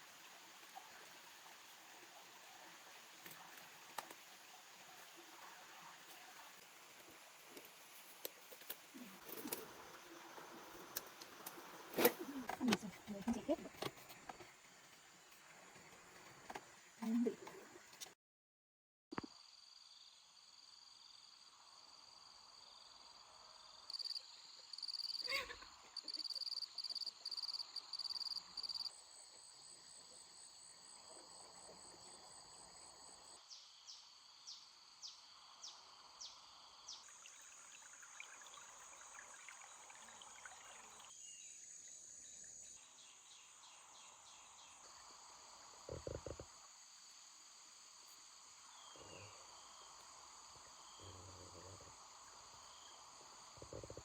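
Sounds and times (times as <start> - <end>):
insects chirping and trilling: 6.5 - 18.2, 19.2 - 54.0.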